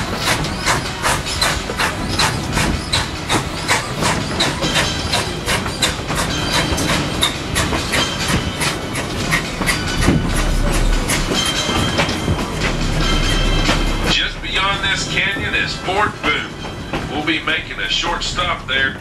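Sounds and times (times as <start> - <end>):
train rumble: 0.0 - 19.0
train wheels clicking: 0.0 - 19.0.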